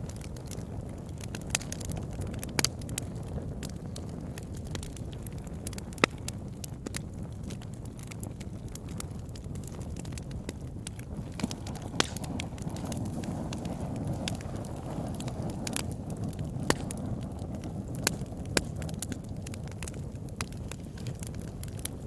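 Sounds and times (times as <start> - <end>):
burning wood crackling and popping: 0.0 - 22.0
campfire flames whooshing: 0.0 - 22.0.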